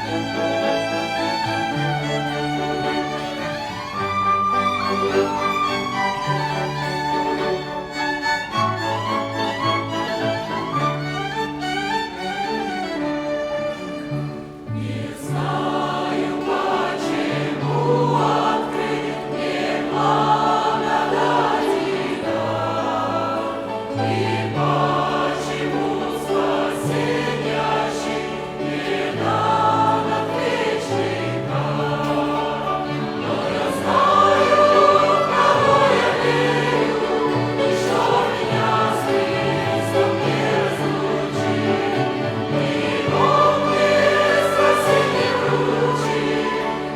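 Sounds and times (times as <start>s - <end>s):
choir singing a hymn: 0.0s - 46.9s
violin ensemble: 0.0s - 46.9s.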